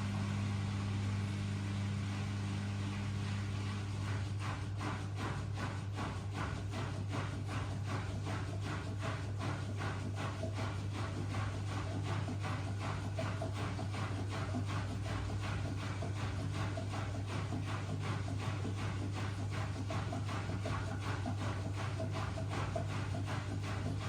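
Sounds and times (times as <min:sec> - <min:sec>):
washing machine motor hum: 0:00.0 - 0:24.0
rhythmic drum knocking: 0:03.6 - 0:24.0.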